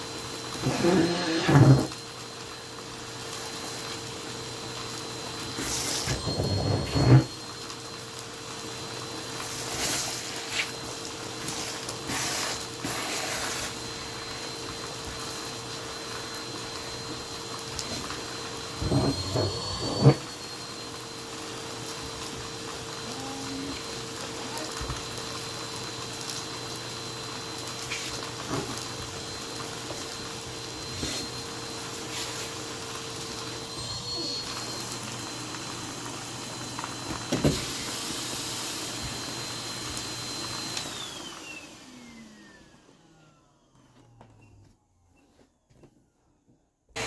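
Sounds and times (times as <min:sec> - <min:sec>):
vacuum cleaner running: 0:00.0 - 0:45.7.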